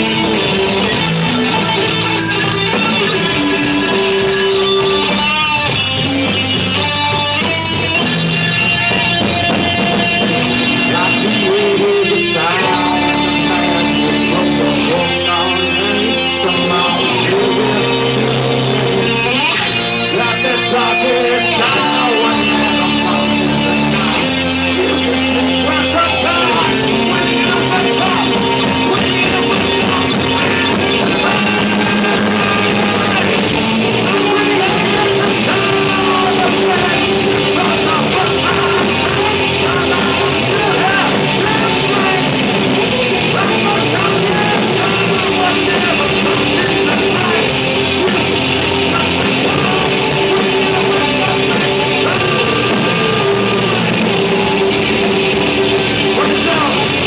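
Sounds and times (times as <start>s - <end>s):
hard rock music: 0.0s - 57.0s.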